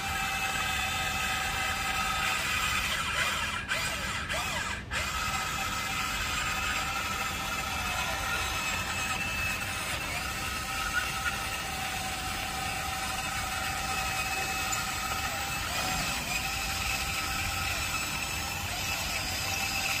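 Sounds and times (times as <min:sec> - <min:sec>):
toy excavator motors whining: 0:00.0 - 0:20.0.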